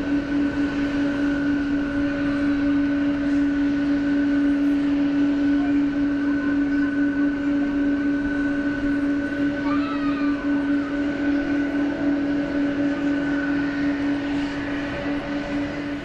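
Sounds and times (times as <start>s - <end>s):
jet airliner engines running: 0.0s - 16.0s.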